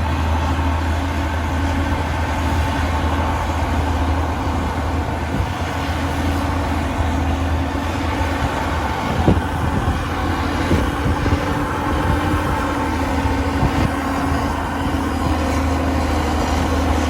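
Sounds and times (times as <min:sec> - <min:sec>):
diesel engine droning: 0:00.0 - 0:17.0
faint steady whine: 0:00.0 - 0:17.0.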